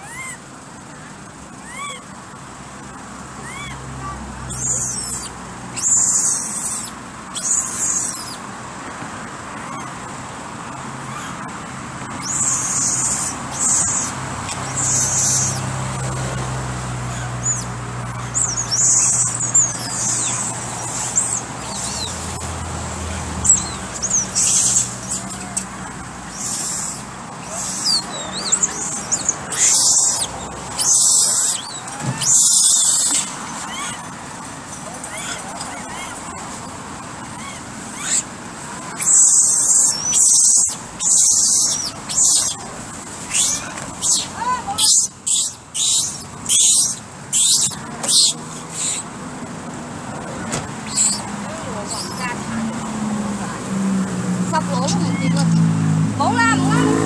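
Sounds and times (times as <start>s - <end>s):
birds chirping: 0.0s - 8.6s, 9.5s - 53.1s.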